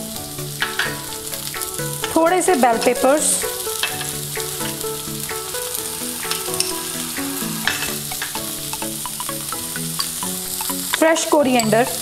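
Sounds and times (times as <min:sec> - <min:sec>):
soft background music: 0:00.0 - 0:12.0
vegetables sizzling in oil: 0:00.0 - 0:12.0
spatula scraping a wok: 0:01.8 - 0:12.0.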